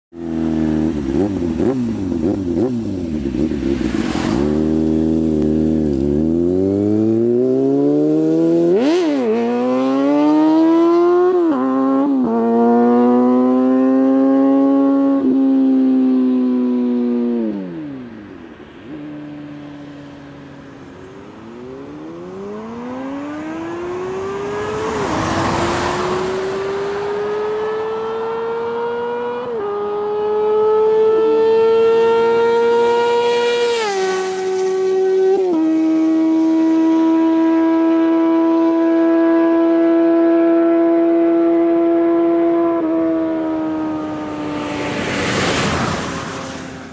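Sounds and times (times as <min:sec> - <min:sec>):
motorcycle engine revving through gears: 0:00.2 - 0:17.9, 0:21.4 - 0:46.9.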